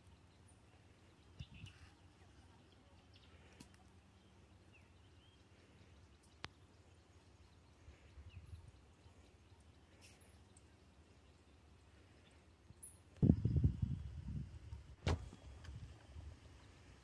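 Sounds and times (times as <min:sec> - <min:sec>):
faint bird chirps: 0:00.0 - 0:14.4.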